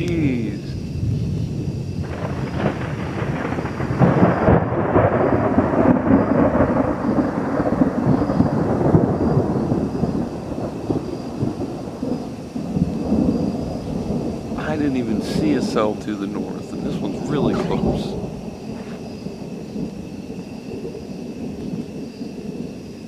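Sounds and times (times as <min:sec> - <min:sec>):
thunder rumbling: 0:00.0 - 0:23.0.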